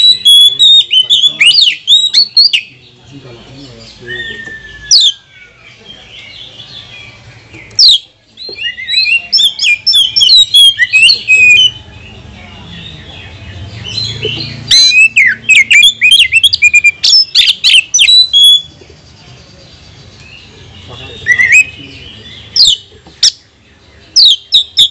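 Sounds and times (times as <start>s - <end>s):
bird singing chirps and whistles: 0.0s - 2.8s, 3.6s - 11.9s, 12.5s - 18.7s, 20.2s - 23.4s, 24.0s - 24.9s.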